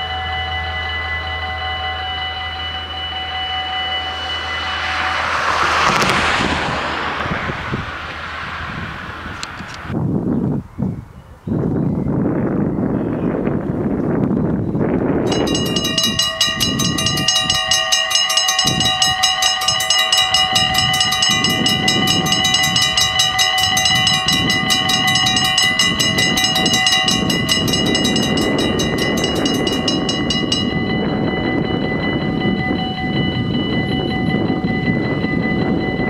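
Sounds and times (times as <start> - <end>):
level crossing bells ringing: 0.0 - 8.6, 15.3 - 36.0
wind noise on microphone: 4.1 - 36.0.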